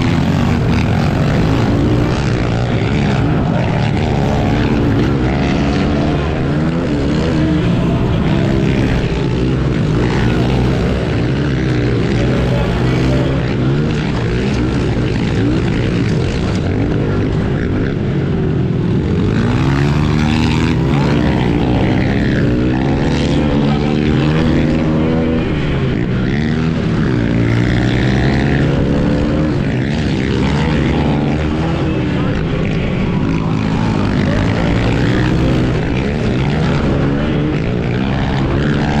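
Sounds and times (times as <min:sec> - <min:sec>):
pit bike engine revving: 0:00.0 - 0:39.0.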